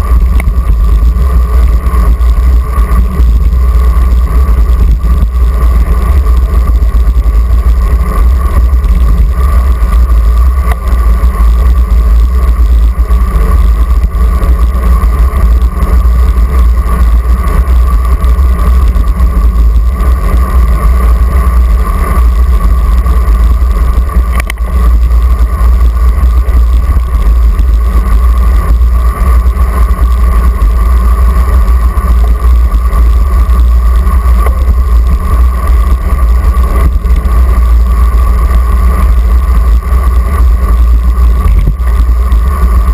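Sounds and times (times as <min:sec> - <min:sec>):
bike tyre and road noise: 0:00.0 - 0:42.9
constant hum: 0:00.0 - 0:42.9
wind buffeting camera: 0:00.0 - 0:42.9.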